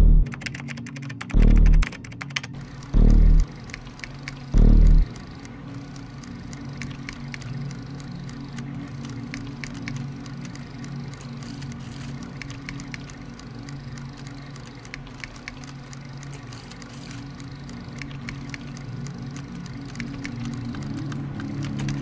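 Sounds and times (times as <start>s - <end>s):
low electronic hum: 0.0s - 22.0s
faint clicks and crackles: 0.2s - 22.0s.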